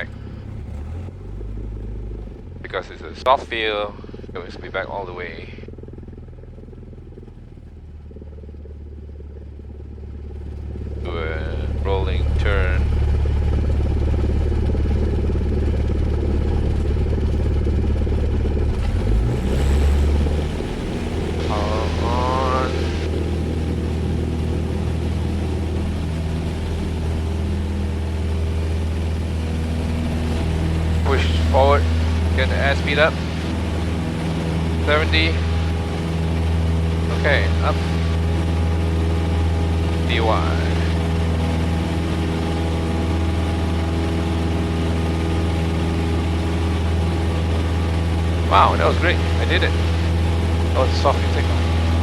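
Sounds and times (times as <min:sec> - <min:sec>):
aircraft engine and propeller: 0:00.0 - 0:52.0.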